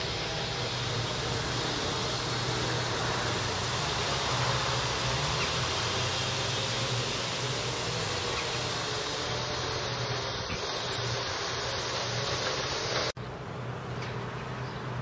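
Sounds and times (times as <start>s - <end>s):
road traffic hiss and hum: 0.0s - 15.0s.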